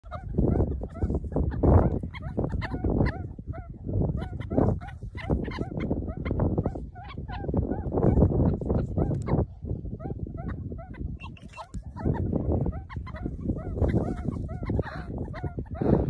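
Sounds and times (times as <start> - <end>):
meerkat pups chirping: 0.0 - 16.0.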